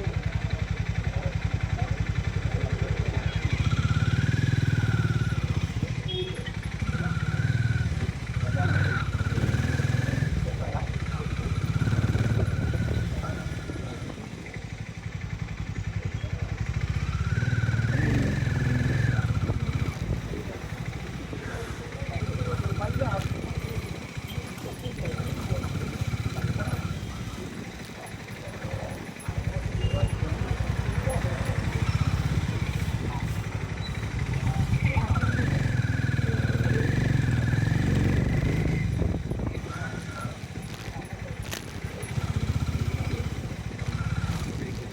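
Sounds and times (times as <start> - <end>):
motorcycle engine under throttle: 0.0 - 44.9.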